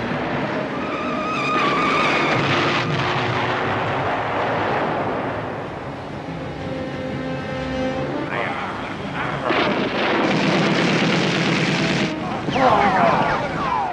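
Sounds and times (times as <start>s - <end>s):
film music score: 0.0s - 13.9s.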